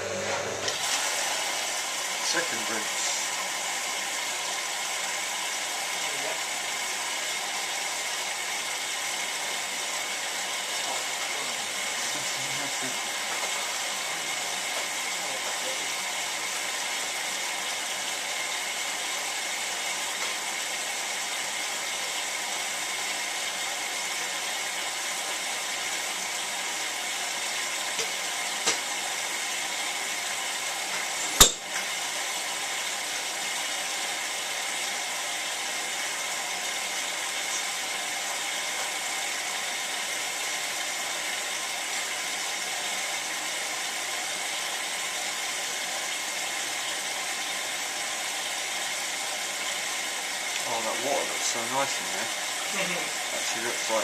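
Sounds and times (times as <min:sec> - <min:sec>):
washing machine hissing: 0:00.0 - 0:54.0.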